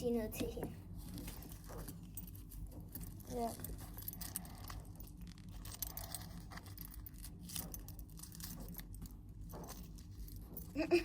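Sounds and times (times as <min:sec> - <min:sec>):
metal necklace chain clinking: 0:01.1 - 0:11.0.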